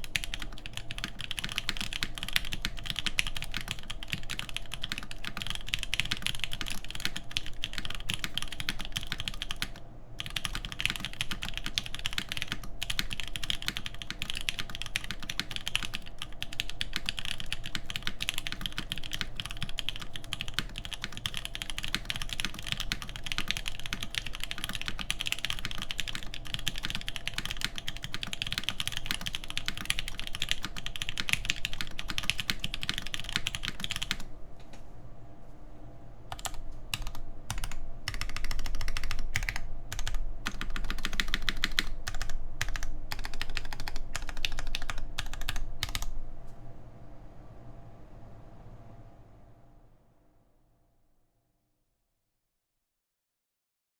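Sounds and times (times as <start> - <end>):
mechanical keyboard typing: 0.0 - 34.3, 36.3 - 46.2.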